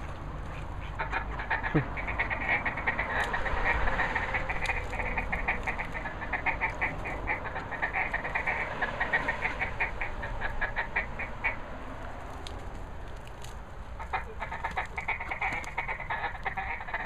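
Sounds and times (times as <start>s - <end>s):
ducks quacking: 0.0s - 12.5s, 13.3s - 17.0s.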